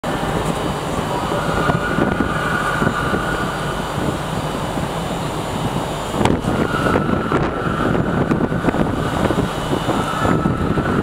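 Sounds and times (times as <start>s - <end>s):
high whine: 0.0s - 11.0s
trains idling drone: 0.0s - 11.0s.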